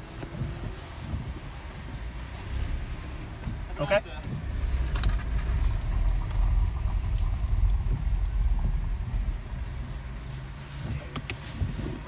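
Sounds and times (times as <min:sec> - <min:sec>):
car engine rumble from inside: 0:00.0 - 0:12.0.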